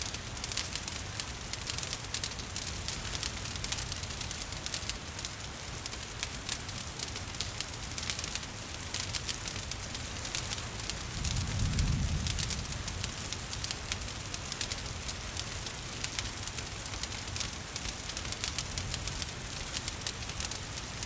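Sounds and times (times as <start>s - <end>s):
gentle rain hiss: 0.0s - 21.0s
wood fire crackling: 0.0s - 21.0s.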